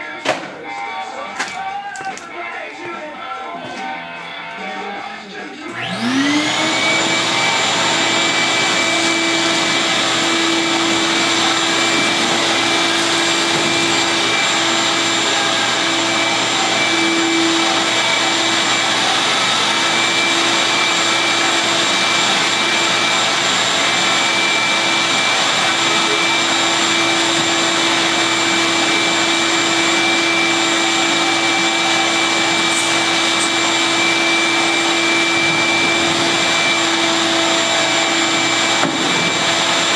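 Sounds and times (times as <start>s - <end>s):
vacuum cleaner running: 5.6s - 39.9s.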